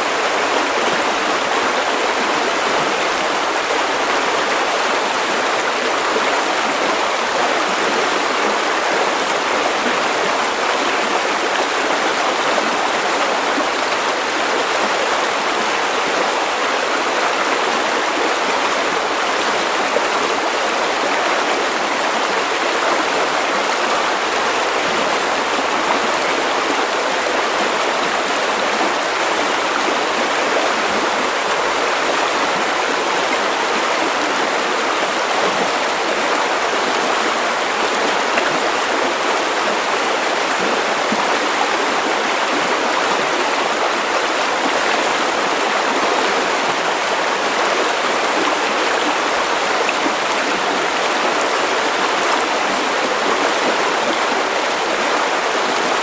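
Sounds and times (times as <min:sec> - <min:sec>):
river water rushing over stones: 0:00.0 - 0:56.0.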